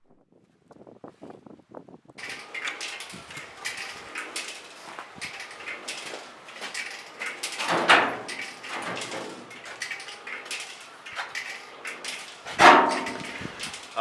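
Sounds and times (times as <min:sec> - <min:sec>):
irregular knocks and clatters: 0:02.2 - 0:14.0.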